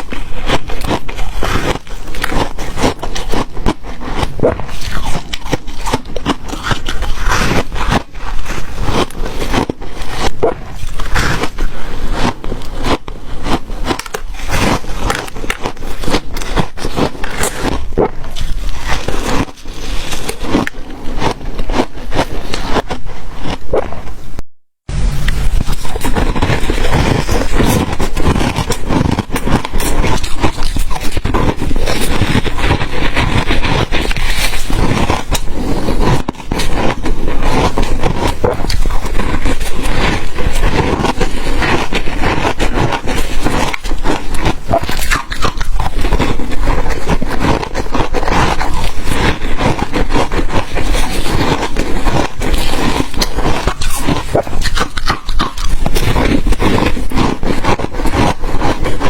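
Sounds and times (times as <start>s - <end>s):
ice being chewed: 0.0s - 24.4s, 25.1s - 59.0s.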